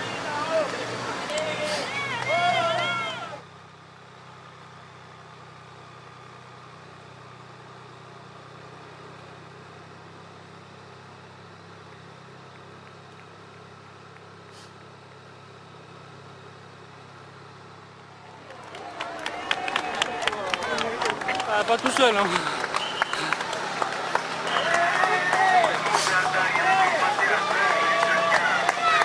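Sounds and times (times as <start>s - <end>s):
vehicle engine running at low revs: 0.0s - 29.0s.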